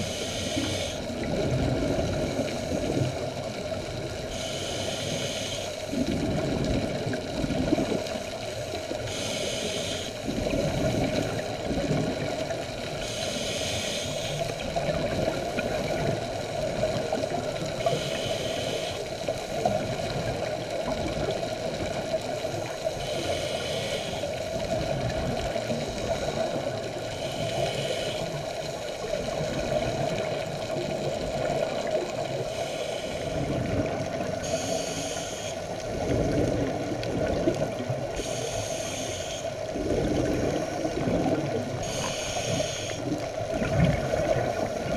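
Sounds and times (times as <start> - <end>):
exhaled bubbles gurgling: 0.0 - 44.9
underwater rumble: 0.0 - 44.9.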